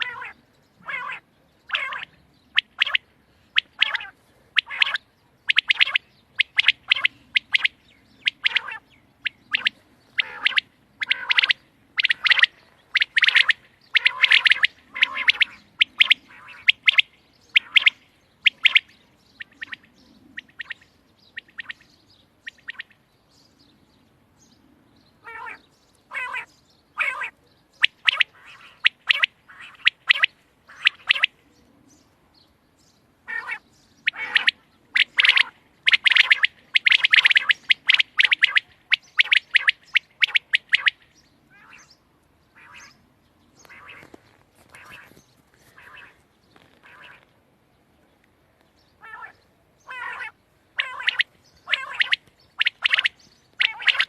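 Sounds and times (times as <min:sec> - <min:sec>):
quail chirping calls: 0:00.0 - 0:23.0, 0:24.6 - 0:31.8, 0:33.2 - 0:47.3, 0:48.8 - 0:54.0.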